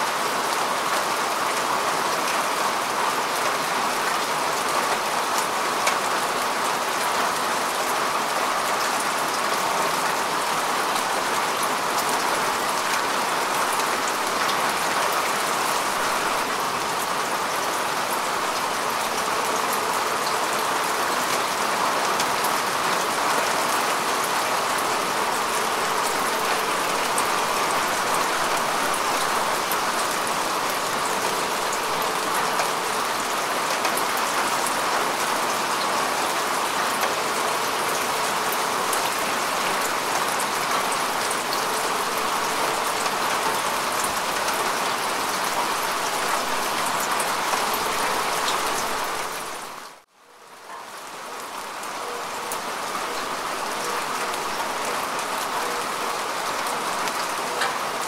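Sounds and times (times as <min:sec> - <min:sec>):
rain falling on grass: 0:00.0 - 0:58.0.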